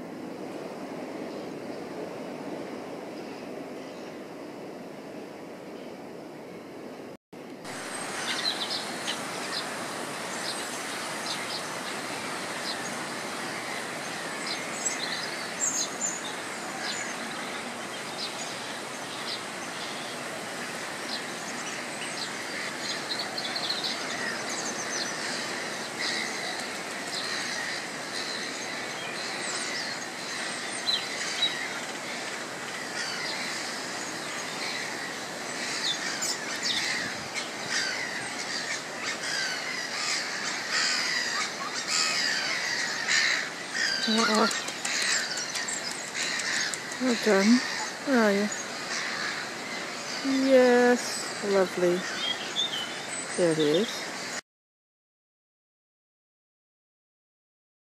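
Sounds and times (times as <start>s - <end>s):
birds chirping and calling: 7.8s - 54.4s.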